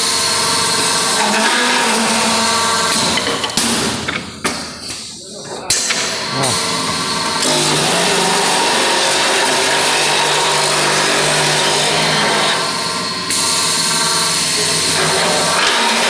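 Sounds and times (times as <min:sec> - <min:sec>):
lathe cutting wooden rod: 0:00.0 - 0:03.9, 0:05.7 - 0:16.0.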